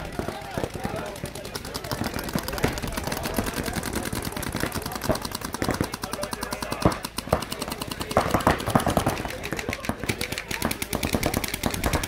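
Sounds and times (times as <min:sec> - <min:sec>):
paintball markers firing rapidly: 0:00.0 - 0:12.0.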